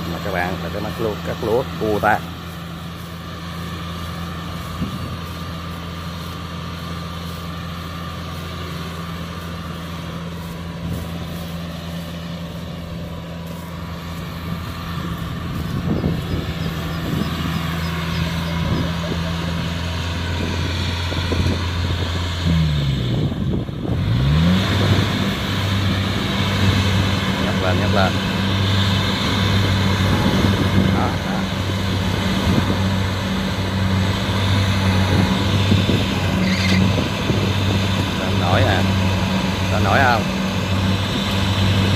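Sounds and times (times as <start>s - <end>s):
combine harvester diesel engine: 0.0s - 41.9s.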